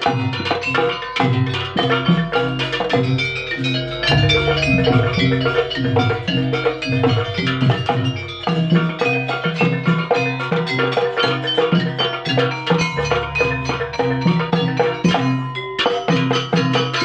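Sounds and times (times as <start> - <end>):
mallet percussion and drums: 0.0 - 17.0.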